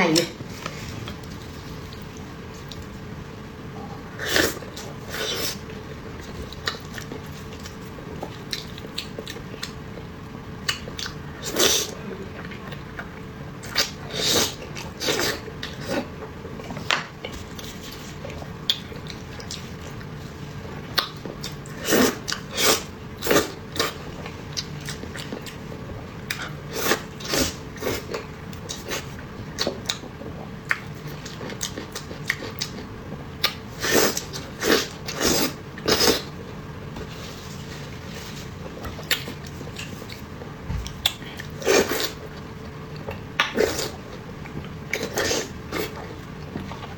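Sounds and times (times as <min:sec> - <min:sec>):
person chewing food: 0:04.2 - 0:36.4, 0:37.8 - 0:46.9.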